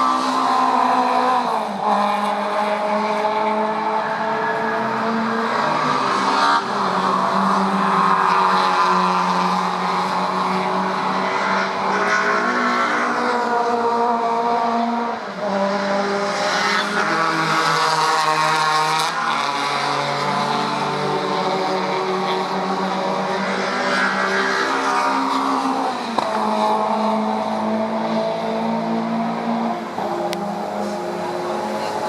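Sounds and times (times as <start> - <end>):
race car engines: 0.0 - 32.0.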